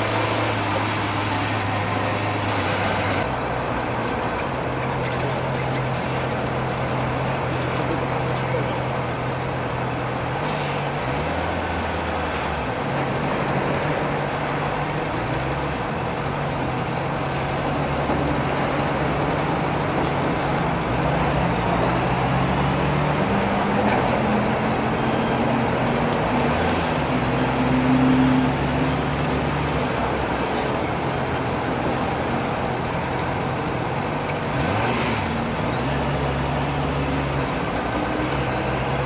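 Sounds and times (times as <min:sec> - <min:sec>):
road and traffic noise: 0:00.0 - 0:39.0.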